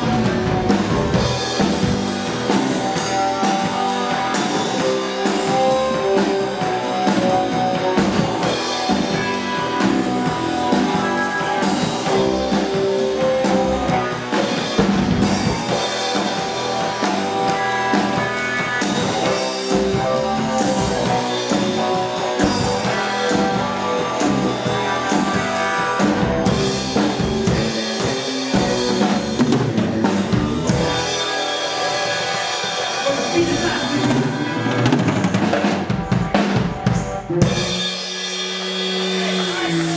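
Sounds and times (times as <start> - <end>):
drum kit with cymbals and snare: 0.0 - 39.9
electric guitar: 0.0 - 39.9.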